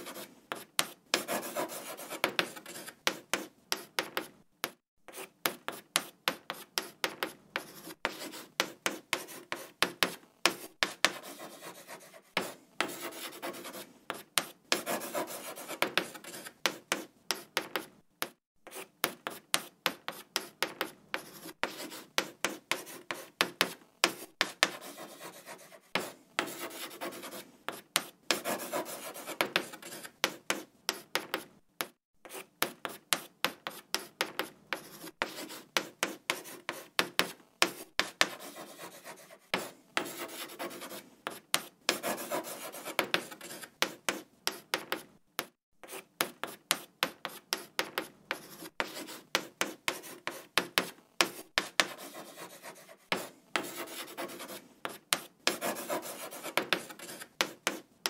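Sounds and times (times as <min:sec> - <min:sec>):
chalk scratching on a board: 0:00.0 - 0:57.9.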